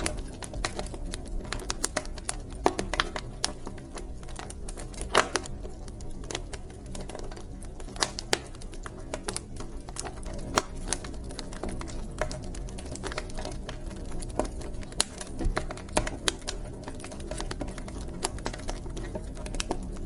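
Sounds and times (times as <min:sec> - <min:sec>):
low rumble of fire: 0:00.0 - 0:20.0
wood fire crackling and popping: 0:00.0 - 0:20.0.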